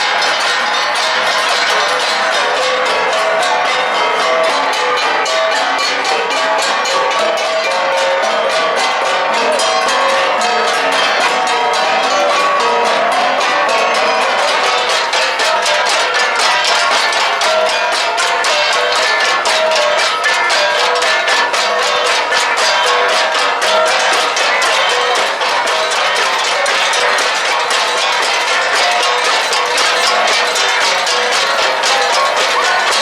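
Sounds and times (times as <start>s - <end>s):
bronze gongs played in rhythm: 0.0s - 33.0s.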